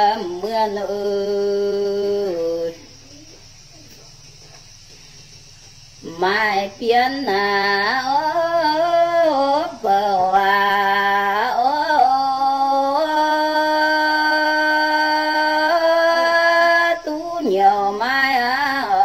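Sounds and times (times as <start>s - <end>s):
woman singing folk song: 0.0s - 3.0s, 6.0s - 19.0s.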